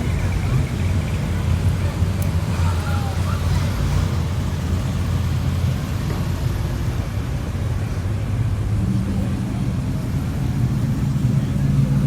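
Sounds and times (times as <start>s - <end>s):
car engines running low: 0.0s - 12.0s.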